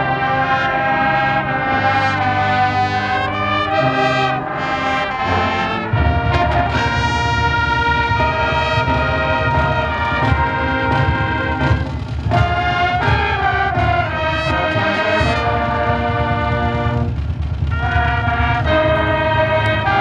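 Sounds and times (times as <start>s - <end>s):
brass holding loud chords: 0.0s - 20.0s
low brass and drums: 0.0s - 20.0s.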